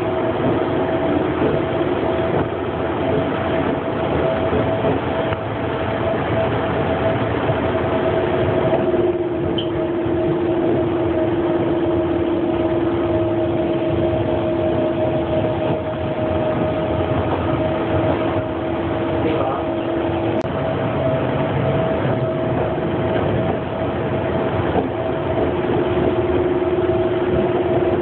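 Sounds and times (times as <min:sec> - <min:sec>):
steady whining tone: 0:00.0 - 0:28.0
train car rumble: 0:00.0 - 0:28.0.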